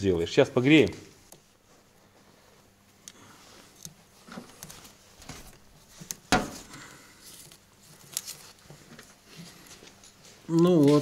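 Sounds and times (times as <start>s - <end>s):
small clicks and rustles: 1.3s - 11.0s.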